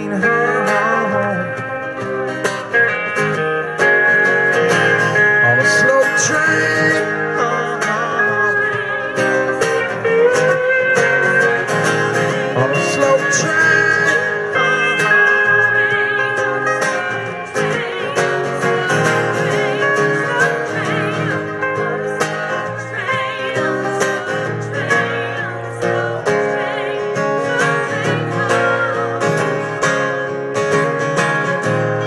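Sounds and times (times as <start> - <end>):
acoustic guitars strumming: 0.0 - 32.0.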